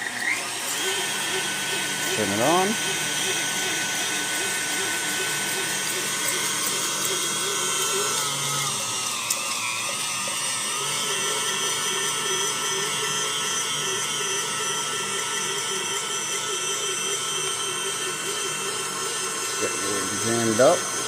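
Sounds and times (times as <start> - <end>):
meat grinder motor whining: 0.0 - 21.0.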